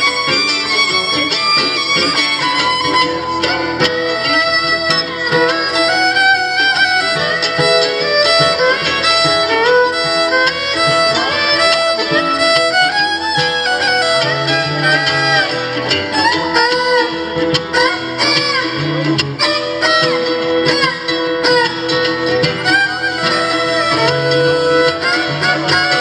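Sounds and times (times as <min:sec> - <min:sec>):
fiddle melody: 0:00.0 - 0:26.0
guitar accompaniment: 0:00.0 - 0:26.0.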